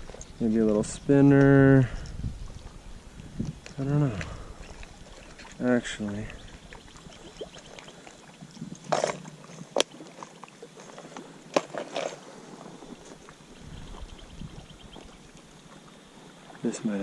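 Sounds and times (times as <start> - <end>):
faint water sounds: 0.0 - 17.0.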